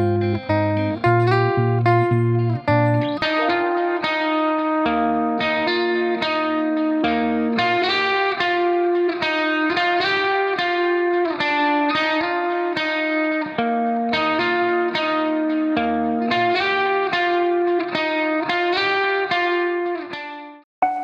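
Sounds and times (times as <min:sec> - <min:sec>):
plucked guitar melody: 0:00.0 - 0:21.0.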